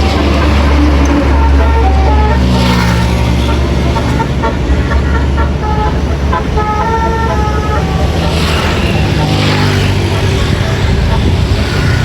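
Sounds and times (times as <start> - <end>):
bus engine running: 0.0 - 12.0
multi-tone bus horn: 0.0 - 12.0.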